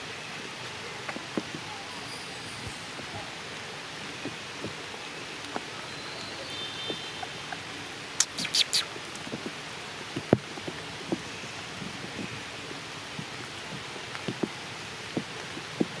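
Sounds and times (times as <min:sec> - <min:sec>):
rain patter: 0:00.0 - 0:16.0.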